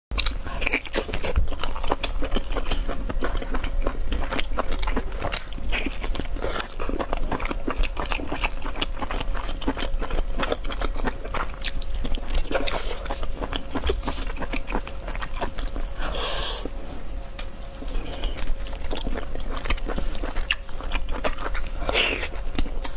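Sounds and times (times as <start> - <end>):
wet chewing: 0.2 - 22.9.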